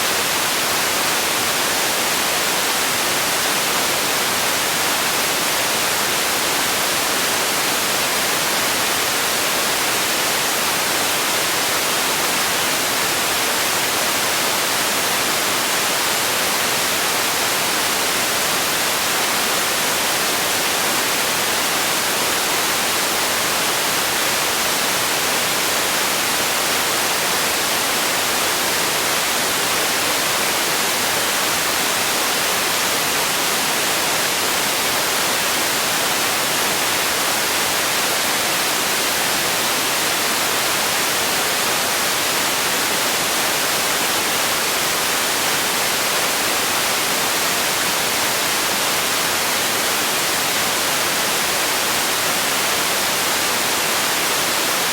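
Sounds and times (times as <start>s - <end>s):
steady white noise hiss: 0.0s - 54.9s.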